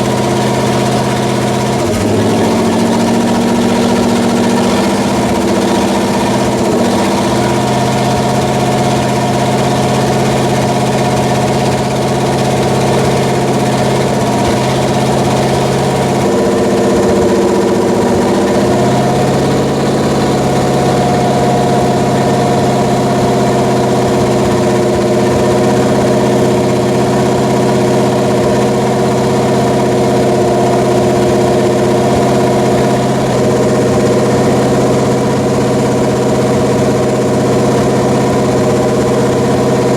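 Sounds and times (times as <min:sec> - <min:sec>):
engine running at fast idle: 0:00.0 - 0:39.9.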